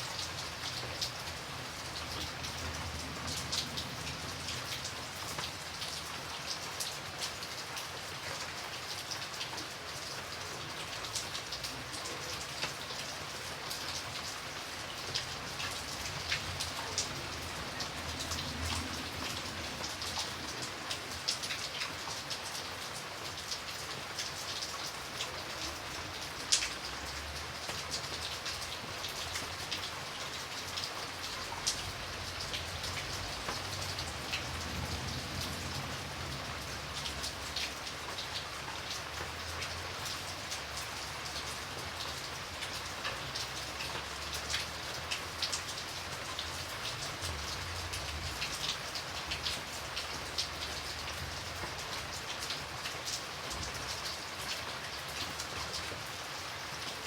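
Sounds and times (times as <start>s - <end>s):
raindrops ticking on surface: 0.0s - 57.0s
steady rain hiss: 0.0s - 57.0s.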